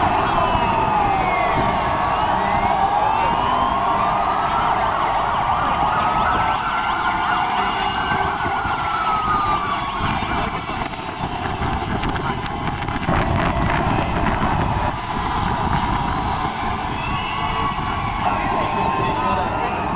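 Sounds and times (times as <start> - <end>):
emergency sirens wailing: 0.0 - 19.9.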